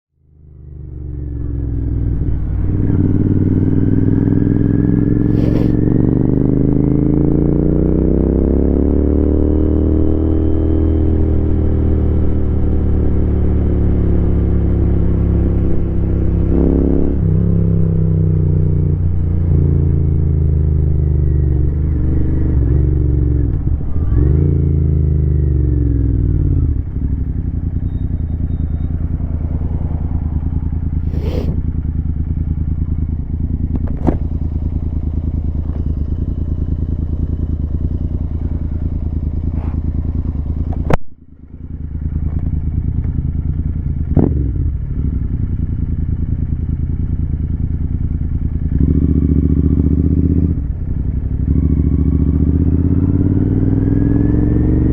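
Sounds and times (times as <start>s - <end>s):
motorcycle engine revving: 0.2s - 54.9s.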